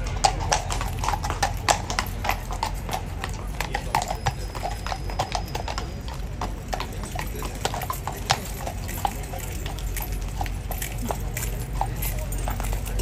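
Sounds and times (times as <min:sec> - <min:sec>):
horse hooves on stone paving: 0:00.0 - 0:13.0.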